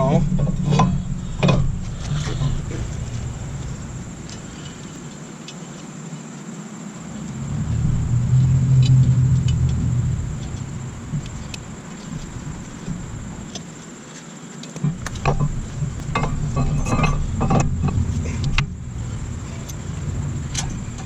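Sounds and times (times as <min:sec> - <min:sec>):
passing vehicle rumble: 0:00.0 - 0:05.3, 0:07.0 - 0:13.6, 0:14.8 - 0:21.0.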